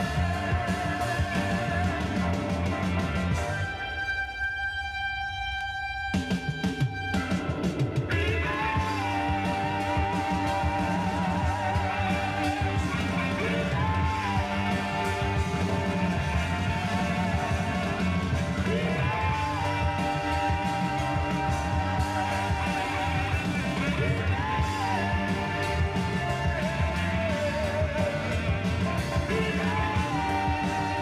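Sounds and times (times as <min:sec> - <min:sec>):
song played from a record: 0:00.0 - 0:31.0.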